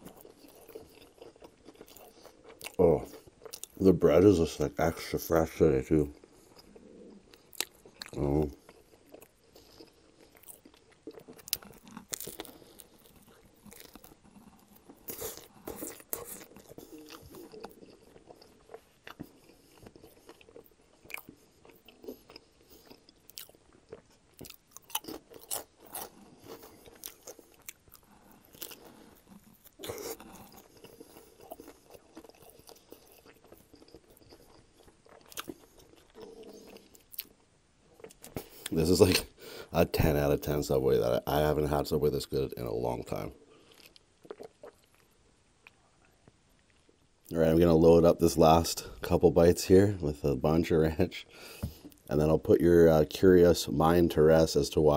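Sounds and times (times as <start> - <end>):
crisp crunching chews: 0.0 - 49.5.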